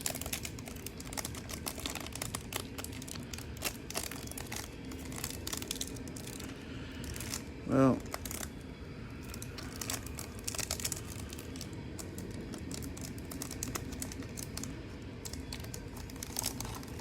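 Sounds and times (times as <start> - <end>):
plastic wrapper crinkling: 0.0 - 17.0.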